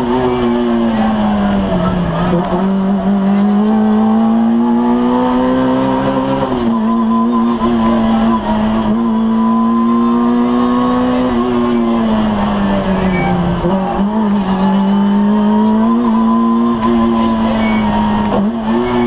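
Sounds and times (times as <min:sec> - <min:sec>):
car engine revving in cabin: 0:00.0 - 0:19.0.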